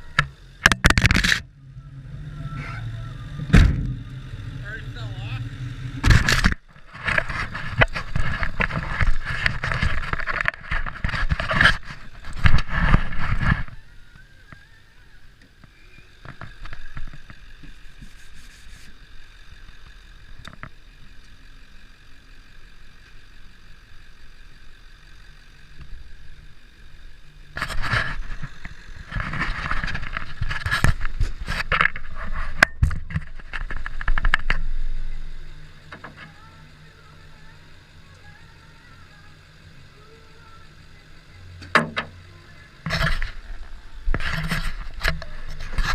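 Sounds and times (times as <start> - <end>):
rough road and vehicle noise: 0.0 - 45.9
thin engine whine: 0.0 - 45.9.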